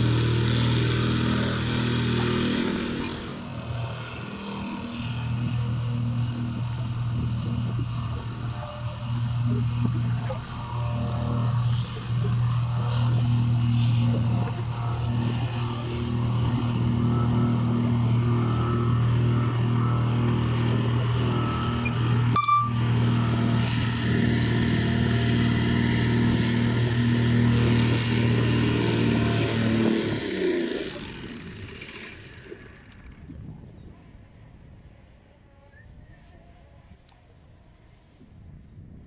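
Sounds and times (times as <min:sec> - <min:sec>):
plate compactor running: 0:00.0 - 0:33.2.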